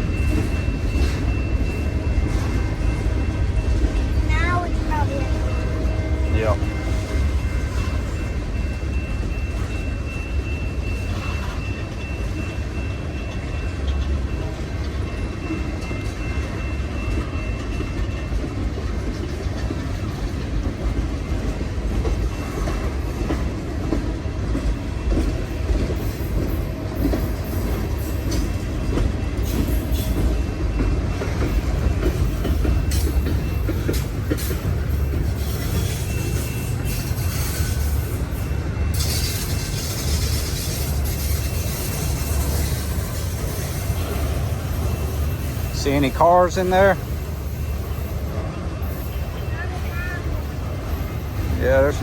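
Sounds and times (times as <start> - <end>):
freight train rumbling: 0.0 - 52.0.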